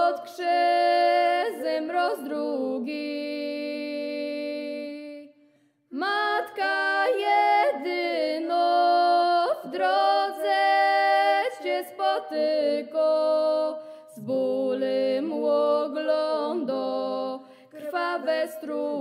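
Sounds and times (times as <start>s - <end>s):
women singing a hymn in harmony: 0.0s - 19.0s.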